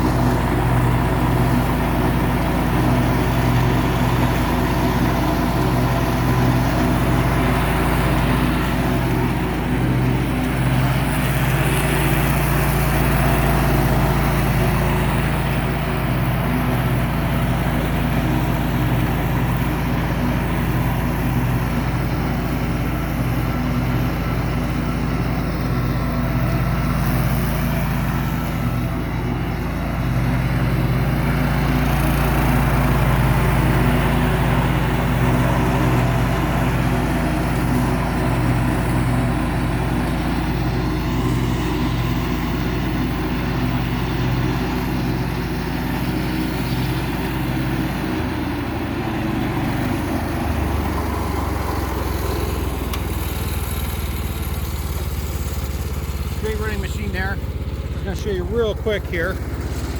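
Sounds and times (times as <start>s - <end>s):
garden tractor engine running: 0.0s - 59.9s
mower deck turning: 0.0s - 59.9s.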